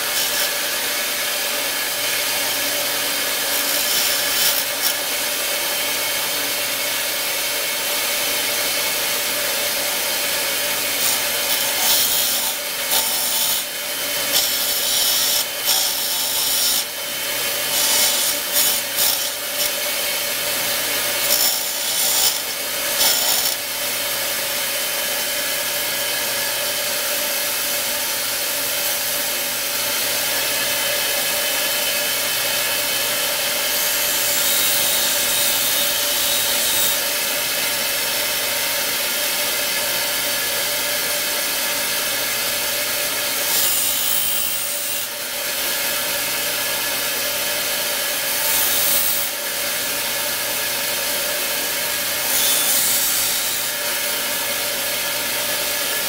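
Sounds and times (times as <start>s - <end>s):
bench grinder motor humming: 0.0s - 56.0s.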